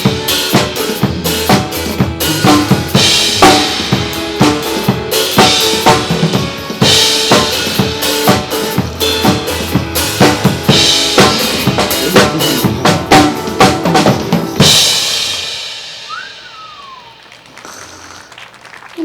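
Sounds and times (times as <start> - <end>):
drum kit playing: 0.0 - 18.6
pop backing track: 0.0 - 18.6.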